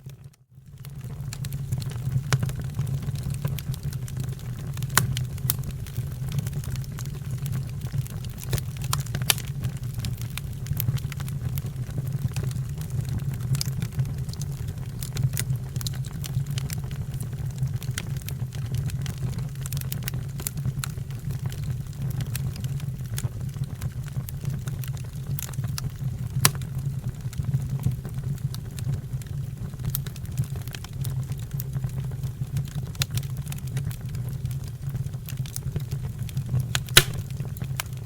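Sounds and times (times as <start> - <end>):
fire crackling and popping: 0.1 - 38.0.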